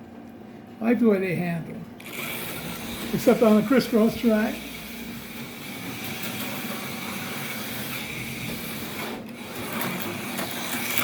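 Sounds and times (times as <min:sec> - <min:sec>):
slot car motor whirring: 0:02.0 - 0:11.0.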